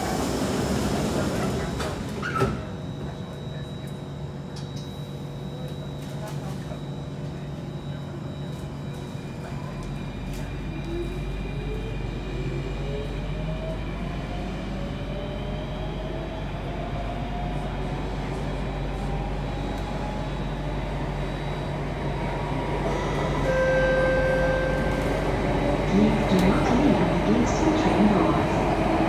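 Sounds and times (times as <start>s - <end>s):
train low rumble: 0.0s - 29.0s.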